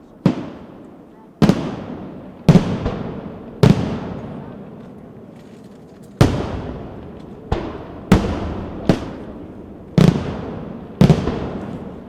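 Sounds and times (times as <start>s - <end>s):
fireworks bangs with echo: 0.0s - 5.3s, 6.1s - 12.0s.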